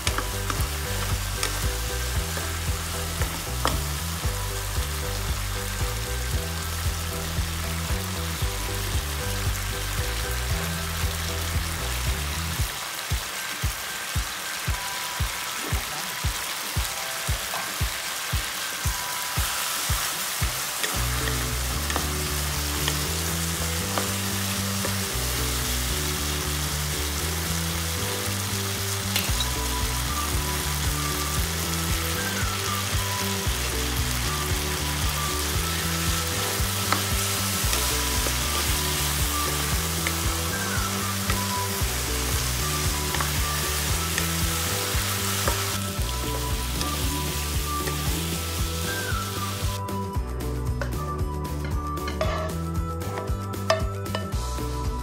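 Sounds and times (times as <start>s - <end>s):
meat sizzling in a wok: 0.0s - 49.8s
background music with beat: 0.0s - 55.0s.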